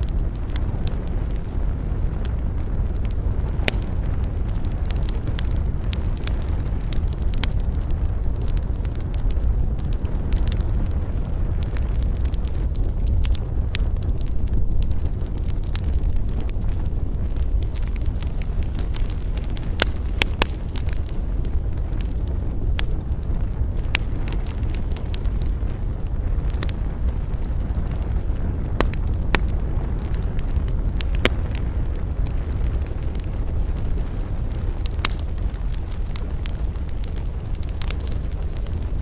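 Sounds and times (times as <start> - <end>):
burning wood crackling: 0.0 - 39.0
campfire flames roaring: 0.0 - 39.0.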